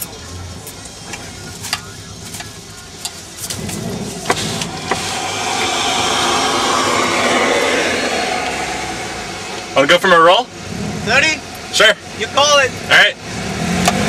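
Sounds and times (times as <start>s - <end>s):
broad rush of noise: 0.0s - 14.0s
car engine and road noise: 0.0s - 14.0s.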